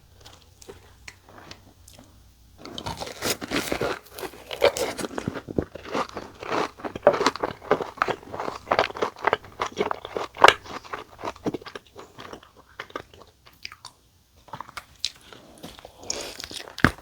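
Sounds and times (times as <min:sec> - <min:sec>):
crunching fried chicken: 0:00.1 - 0:17.0.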